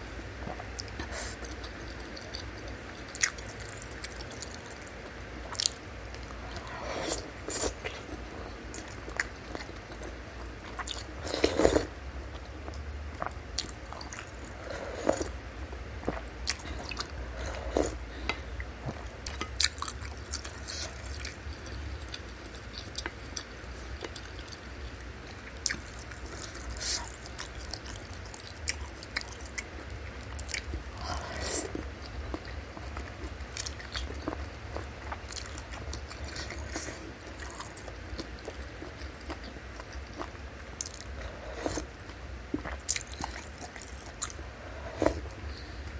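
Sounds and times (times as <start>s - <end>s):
wet chewing: 0.5s - 15.3s, 16.0s - 44.4s.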